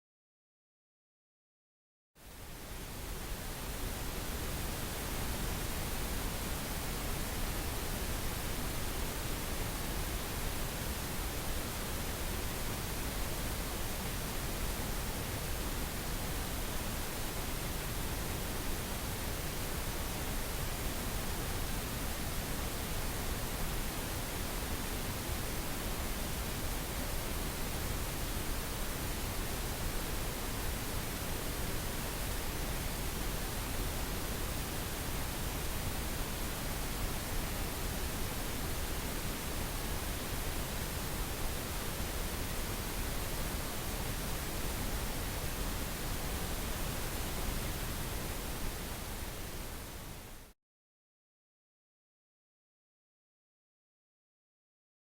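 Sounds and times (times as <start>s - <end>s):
pink noise hiss: 2.2s - 50.6s.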